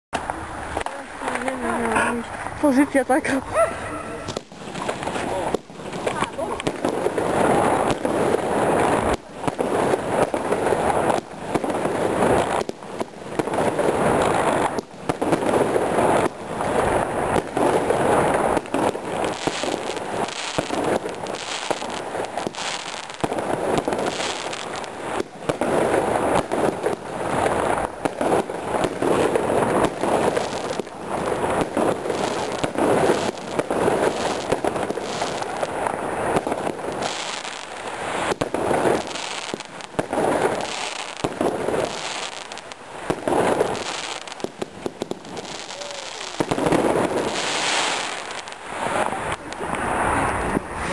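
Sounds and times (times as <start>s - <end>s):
firework cake bangs: 4.2s - 49.8s.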